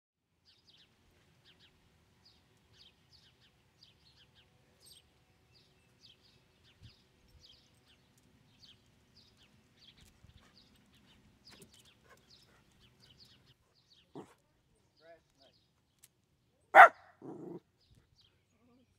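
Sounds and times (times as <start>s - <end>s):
birds chirping: 0.5s - 16.1s, 16.8s - 18.9s.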